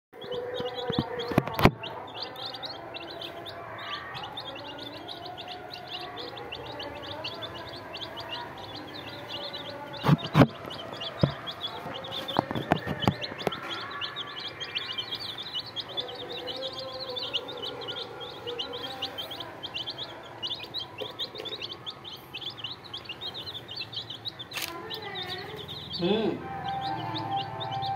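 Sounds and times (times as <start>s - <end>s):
chicks peeping: 0.1s - 27.9s.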